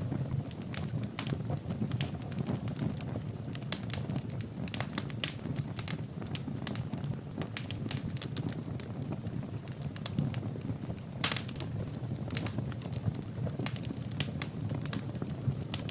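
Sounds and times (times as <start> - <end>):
fire crackling and popping: 0.0 - 15.9
low fire rumble: 0.0 - 15.9.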